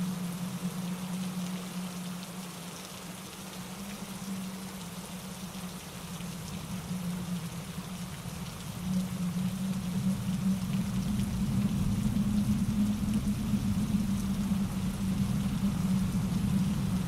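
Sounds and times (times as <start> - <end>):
rain falling in trees: 0.0 - 17.0.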